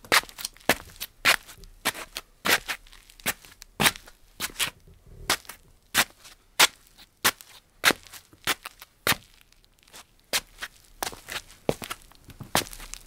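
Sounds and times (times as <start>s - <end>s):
slippers shuffling on tile: 0.1s - 13.0s.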